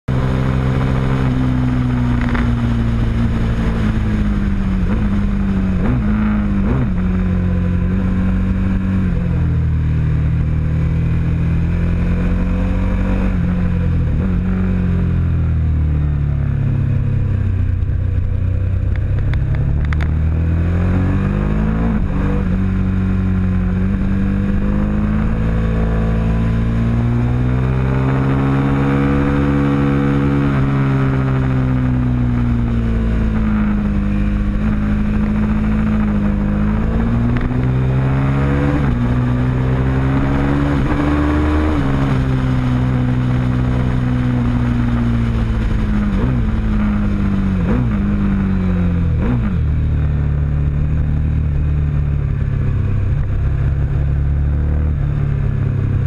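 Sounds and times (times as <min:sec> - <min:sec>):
motorcycle engine revving: 0:00.1 - 0:56.0.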